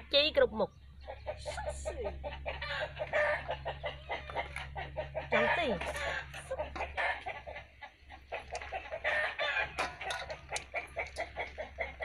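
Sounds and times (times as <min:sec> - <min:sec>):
chickens clucking: 0:00.8 - 0:12.0.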